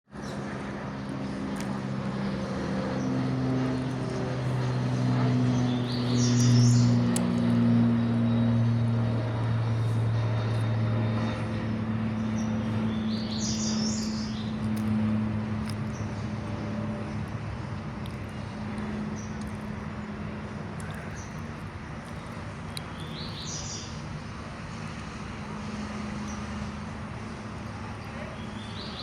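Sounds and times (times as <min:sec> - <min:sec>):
propeller airplane droning: 0:00.1 - 0:29.0
birds chirping: 0:00.2 - 0:24.8, 0:25.5 - 0:29.0.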